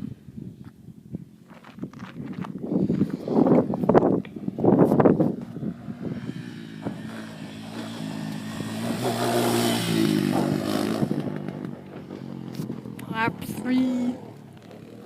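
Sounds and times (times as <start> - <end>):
motorcycle engine passing: 2.8 - 15.0.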